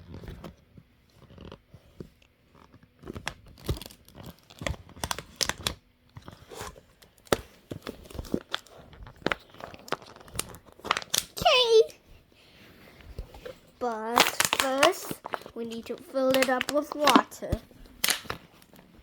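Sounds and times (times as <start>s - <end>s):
plastic bottle crinkling: 1.2s - 12.0s, 13.0s - 19.0s.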